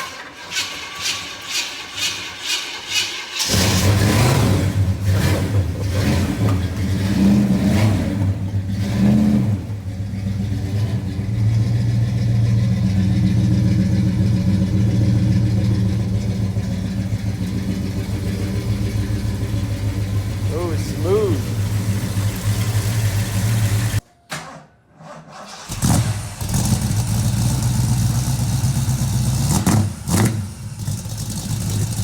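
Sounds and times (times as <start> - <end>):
car engine revving and idling: 3.4 - 24.0, 25.5 - 32.0.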